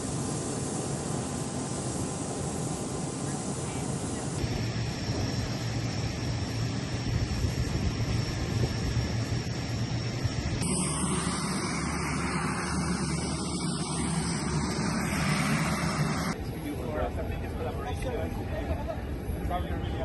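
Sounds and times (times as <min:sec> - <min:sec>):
aircraft engines running: 0:00.0 - 0:20.0.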